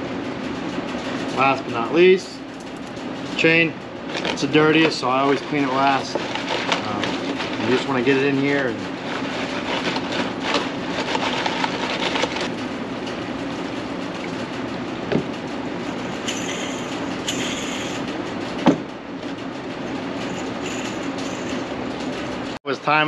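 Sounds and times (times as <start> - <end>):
machine running with clatter: 0.0 - 23.0.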